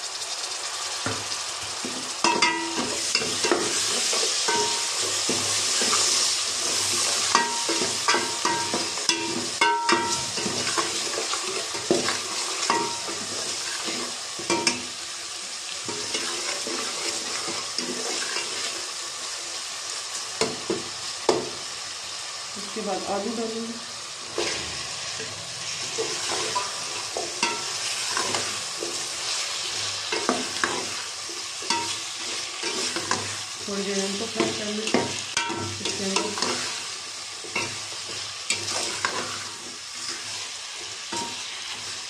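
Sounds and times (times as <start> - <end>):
tomatoes sizzling in hot oil: 0.0 - 42.0.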